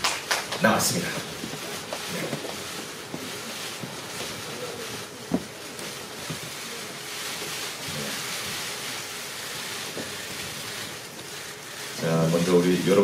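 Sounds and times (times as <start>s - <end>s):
hiss-like room ambience: 0.0s - 13.0s.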